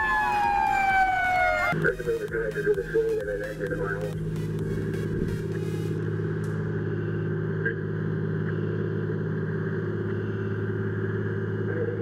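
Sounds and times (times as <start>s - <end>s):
fire engine droning: 0.0s - 12.0s.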